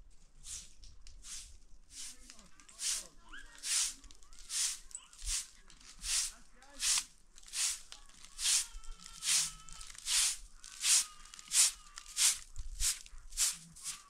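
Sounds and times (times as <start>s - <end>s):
broom sweeping concrete: 0.4s - 14.0s.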